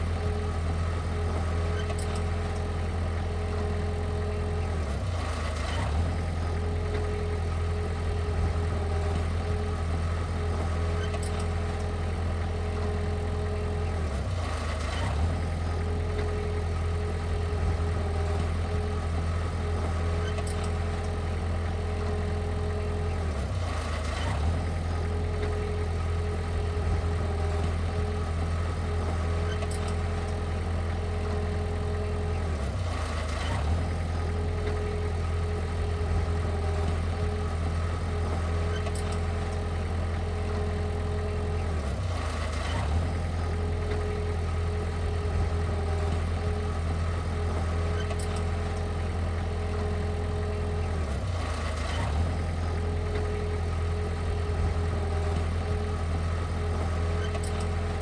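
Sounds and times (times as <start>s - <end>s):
heavy diesel machine engine running: 0.0s - 58.0s.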